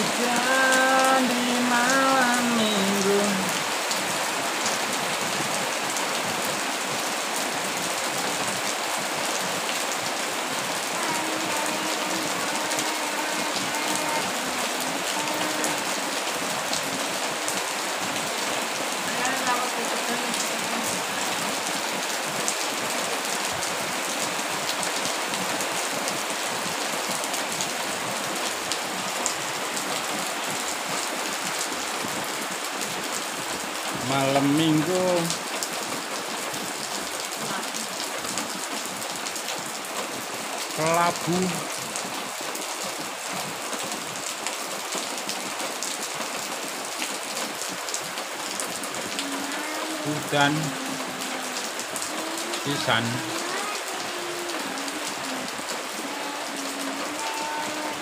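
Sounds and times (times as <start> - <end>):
rain on wet street: 0.0 - 58.0.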